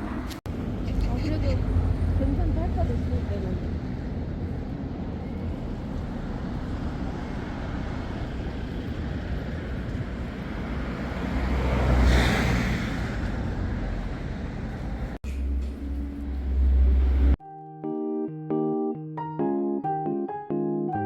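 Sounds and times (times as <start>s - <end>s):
road traffic rumble: 0.0s - 17.4s
vehicle passing close by: 0.0s - 17.4s.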